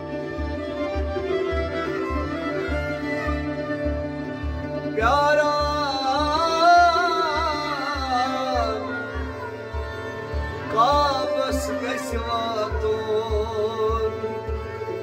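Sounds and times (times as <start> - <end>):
tabla beat: 0.0 - 15.0.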